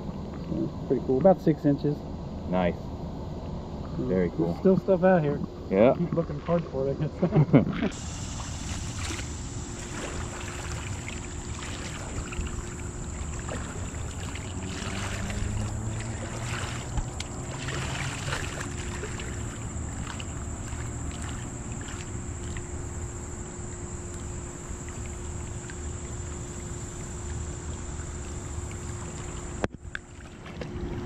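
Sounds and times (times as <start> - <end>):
steady low rumble: 0.0 - 29.7
creek water splashing: 3.5 - 31.0.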